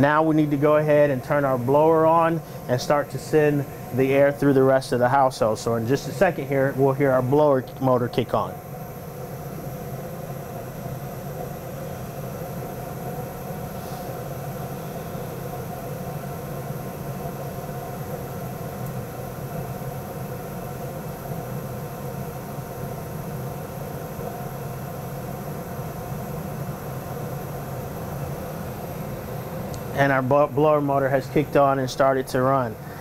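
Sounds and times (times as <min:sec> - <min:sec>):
gas furnace humming: 0:00.0 - 0:33.0.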